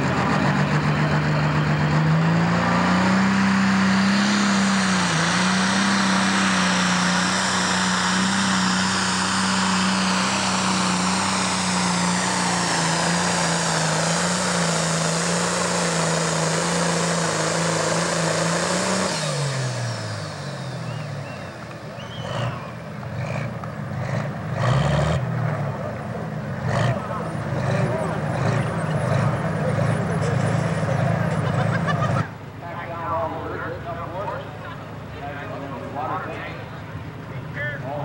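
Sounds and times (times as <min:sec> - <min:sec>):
diesel tractor engine at full load: 0:00.0 - 0:38.0
high turbo whine: 0:00.0 - 0:38.0.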